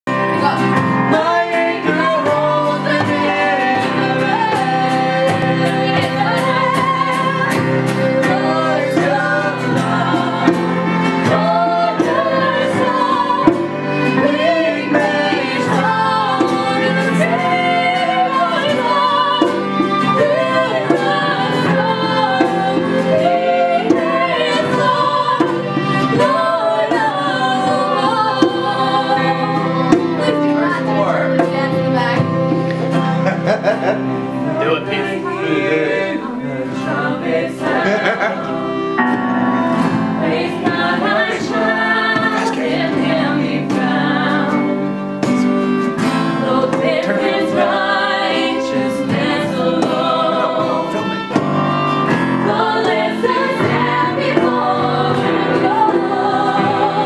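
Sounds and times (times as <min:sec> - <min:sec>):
acoustic guitar: 0:00.1 - 0:57.0
keyboard chords: 0:00.1 - 0:57.0
violin: 0:00.1 - 0:57.0
voices singing together: 0:00.1 - 0:57.0.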